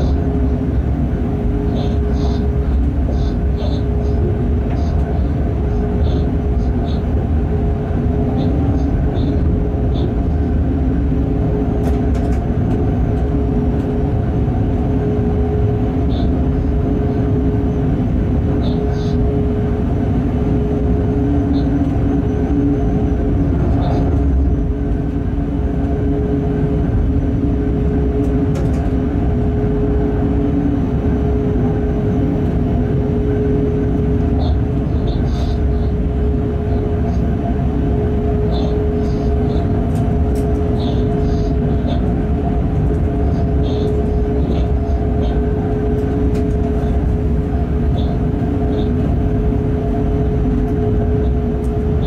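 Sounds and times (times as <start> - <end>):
steady hum: 0.0 - 52.0
train wheels rumbling on track: 0.0 - 52.0.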